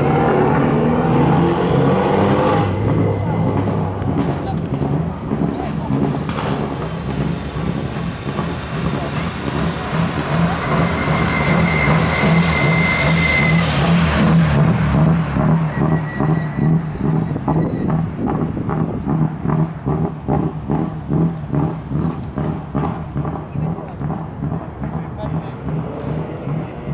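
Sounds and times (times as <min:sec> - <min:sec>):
race car passing: 0:00.0 - 0:26.9.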